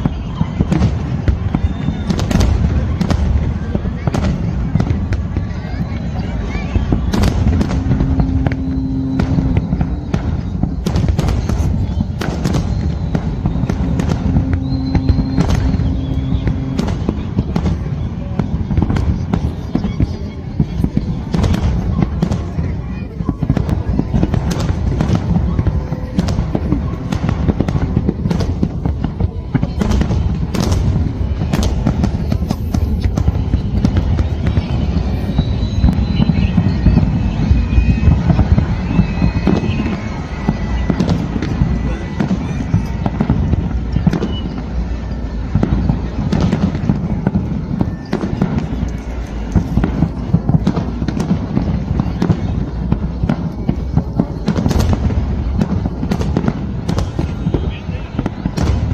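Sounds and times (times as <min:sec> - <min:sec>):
fireworks shells bursting: 0:00.0 - 0:57.8
continuous low rumble: 0:00.0 - 0:58.9.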